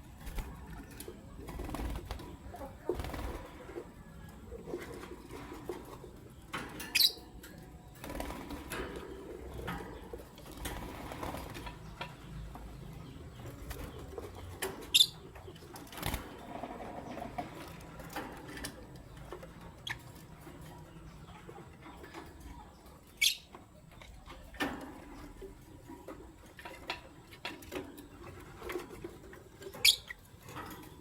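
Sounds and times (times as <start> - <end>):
lovebirds chirping: 0.0 - 17.8, 18.5 - 26.3, 29.3 - 31.0.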